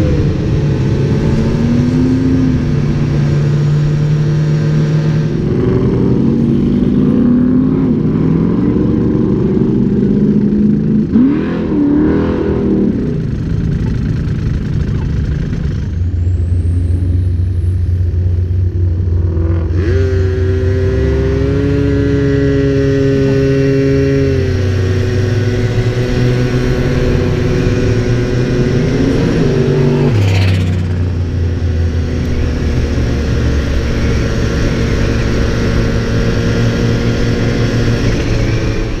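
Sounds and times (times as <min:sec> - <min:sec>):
vehicle engines rumbling: 0:00.0 - 0:39.0.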